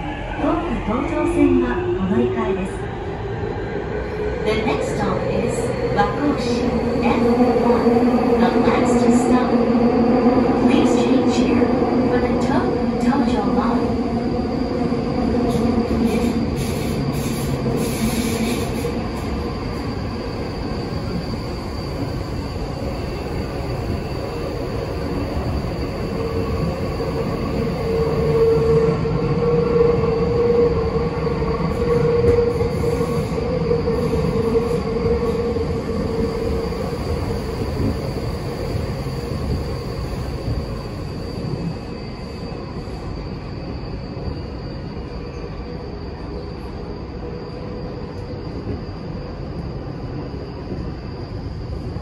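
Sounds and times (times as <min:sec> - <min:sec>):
train wheels rumbling in tunnel: 0:00.0 - 0:52.0.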